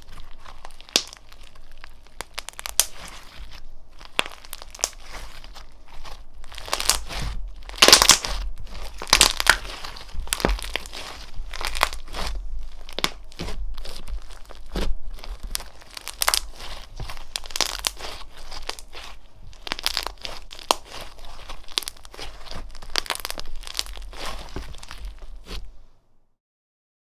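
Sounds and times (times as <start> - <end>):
slime crackling and popping: 0.0 - 25.7.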